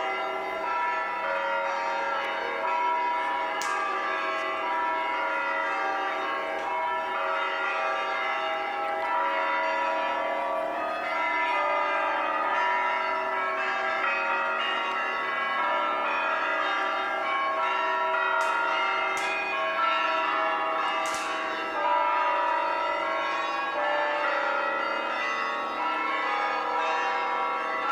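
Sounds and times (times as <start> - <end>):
church bells pealing: 0.0 - 27.9.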